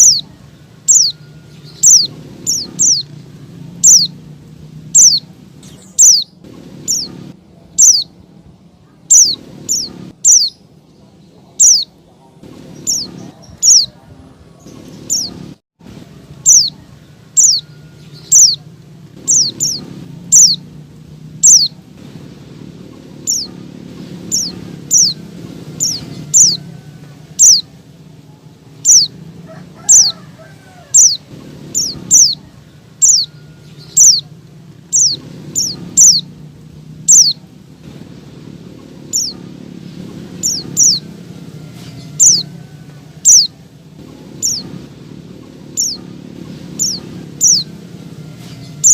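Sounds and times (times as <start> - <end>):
bird high chirps: 0.0 - 8.2, 8.8 - 15.5, 16.3 - 20.8, 21.4 - 22.3, 22.9 - 36.4, 37.0 - 37.5, 39.0 - 42.6, 43.2 - 44.8, 45.4 - 48.9.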